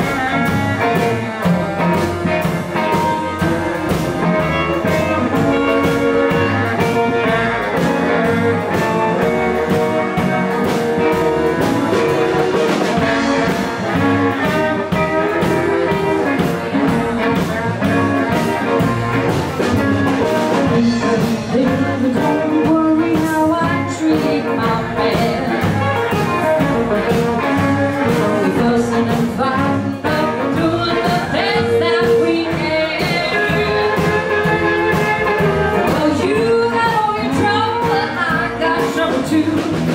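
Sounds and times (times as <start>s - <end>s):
drum kit: 0.0s - 39.9s
electric guitar: 0.0s - 39.9s
saxophone: 0.0s - 39.9s
woman singing: 1.9s - 39.9s.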